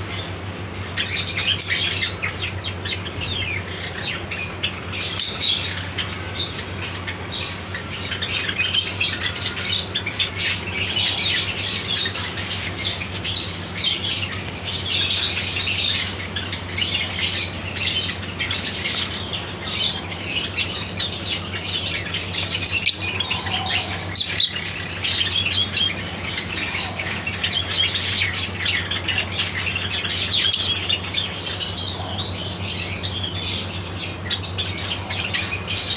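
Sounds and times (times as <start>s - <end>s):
lovebirds chirping and squawking: 0.0s - 35.9s
steady low hum: 0.0s - 35.9s.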